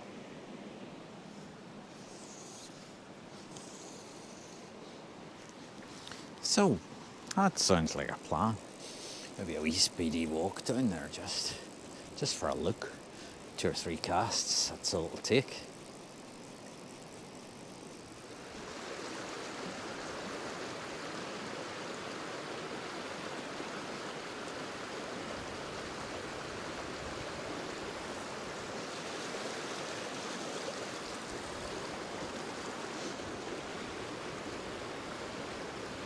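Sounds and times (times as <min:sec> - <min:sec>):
river water rushing over rocks: 0:06.2 - 0:36.0.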